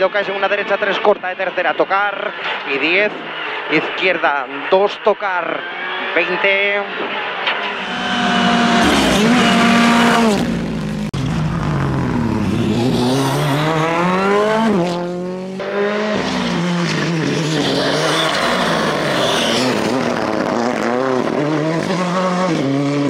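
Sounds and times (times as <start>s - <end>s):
rally car engine at full throttle: 0.0s - 23.0s.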